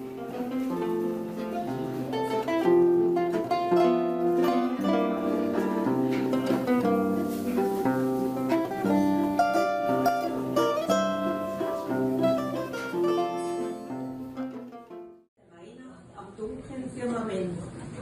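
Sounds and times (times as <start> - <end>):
plucked string instrument melody: 0.0 - 15.3.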